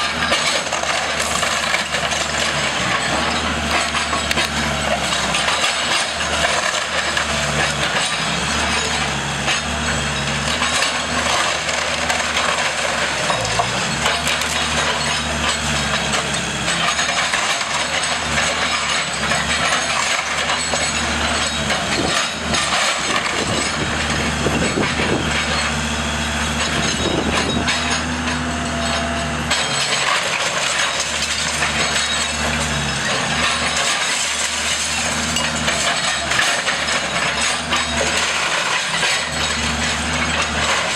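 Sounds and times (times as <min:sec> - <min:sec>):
structure cracking and crashing: 0:00.0 - 0:26.0, 0:26.6 - 0:40.9
diesel engine of demolition machine: 0:00.0 - 0:40.9.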